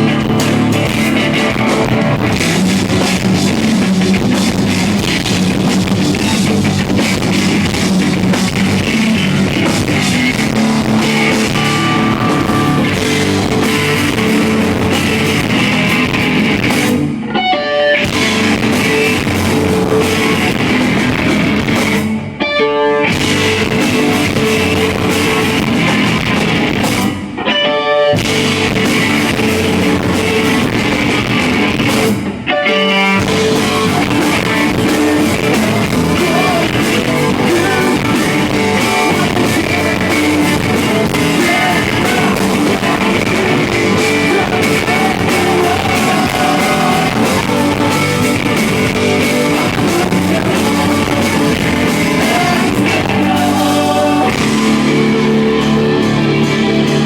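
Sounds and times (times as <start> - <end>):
drum kit: 0.0 - 17.2, 18.0 - 22.3, 23.1 - 27.4, 28.2 - 57.0
electric guitars: 0.0 - 57.0.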